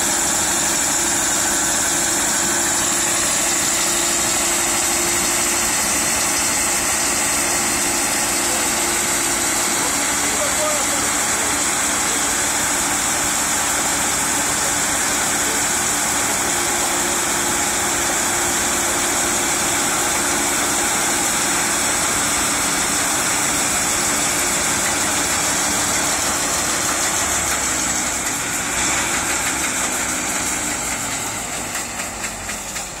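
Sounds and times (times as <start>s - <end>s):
combine harvester engine: 0.0s - 33.0s
grain pouring into trailer: 0.0s - 33.0s.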